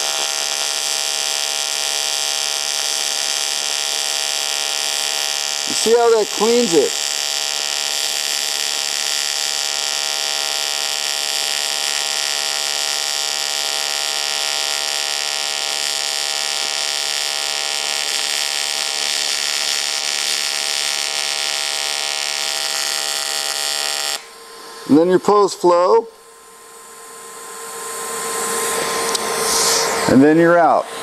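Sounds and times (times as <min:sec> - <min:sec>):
welding arc buzzing: 0:00.0 - 0:31.0.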